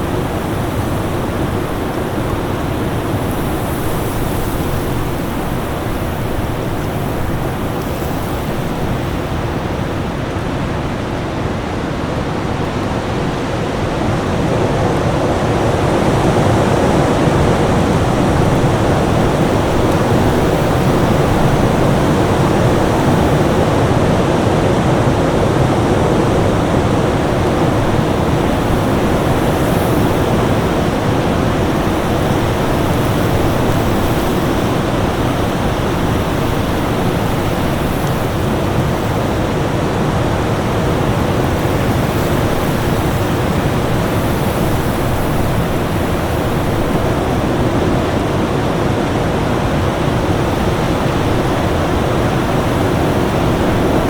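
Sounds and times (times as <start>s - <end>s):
winter storm rushing noise: 0.0s - 54.0s.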